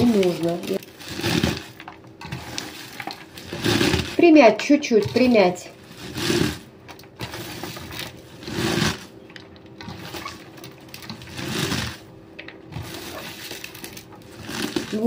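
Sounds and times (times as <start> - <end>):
cabbage rustling and crunching: 0.0 - 9.2, 9.8 - 12.1, 12.7 - 15.0.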